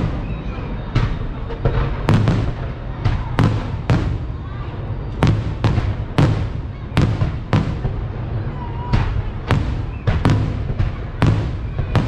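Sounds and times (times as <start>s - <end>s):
continuous low rumble: 0.0s - 12.0s
fireworks bangs echoing: 0.0s - 12.0s.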